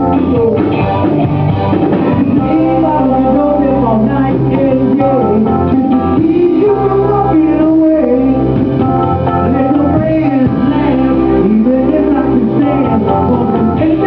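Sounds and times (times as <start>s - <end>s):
person singing: 0.0s - 1.4s, 2.0s - 14.0s
guitar: 0.0s - 14.0s
steady low bass notes: 0.0s - 14.0s.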